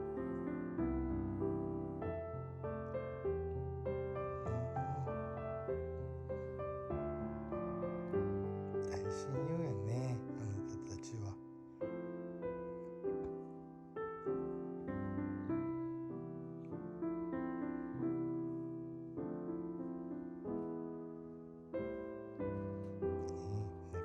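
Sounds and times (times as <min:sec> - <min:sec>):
gentle solo piano music: 0:00.0 - 0:24.0.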